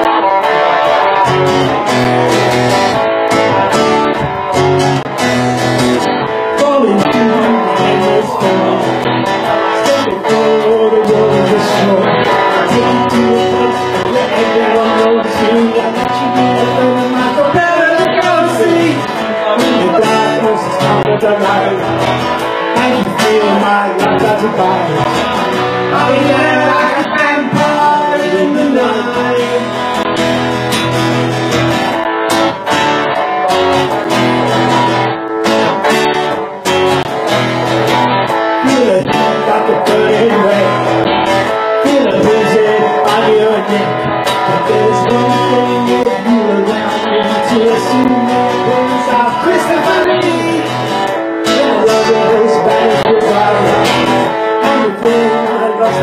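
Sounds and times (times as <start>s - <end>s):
acoustic guitar strummed: 0.0s - 56.0s
electric guitar: 0.0s - 56.0s
person singing: 0.0s - 56.0s.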